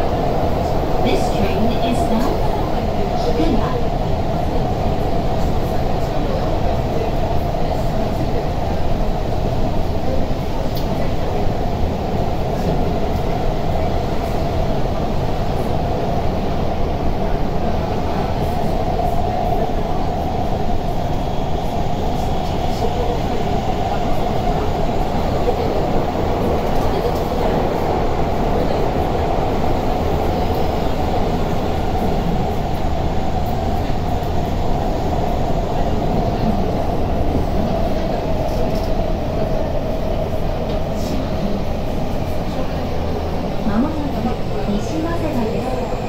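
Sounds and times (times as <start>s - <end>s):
subway car rumbling in tunnel: 0.0s - 46.0s.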